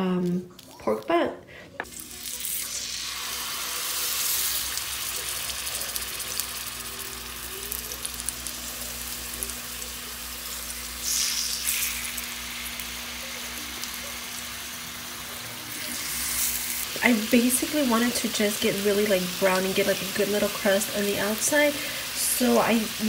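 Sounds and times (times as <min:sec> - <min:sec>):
meat sizzling in hot oil: 0:01.9 - 0:23.0.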